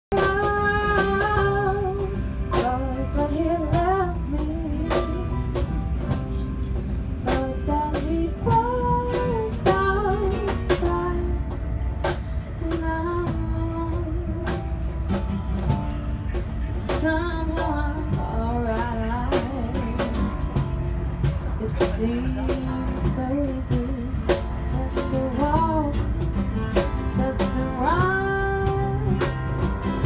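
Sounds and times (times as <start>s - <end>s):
woman singing into a microphone: 0.1s - 5.5s, 7.2s - 14.8s, 16.7s - 20.7s, 21.6s - 30.0s
strummed acoustic guitars: 0.1s - 30.0s
train carriage rumble: 0.1s - 30.0s.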